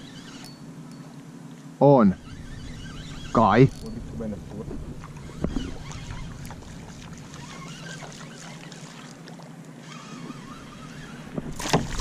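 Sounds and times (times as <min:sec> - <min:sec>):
faint wind: 0:00.0 - 0:12.0
water noise: 0:00.0 - 0:12.0.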